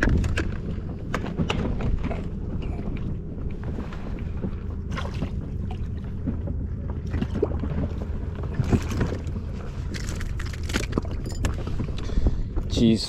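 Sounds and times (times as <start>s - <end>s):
knocks and splashes: 0.0s - 12.7s
wind and water rumble: 0.0s - 13.0s.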